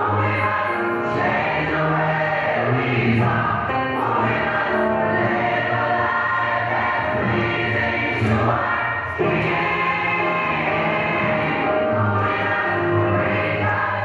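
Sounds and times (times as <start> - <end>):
gospel choir singing: 0.0 - 14.0.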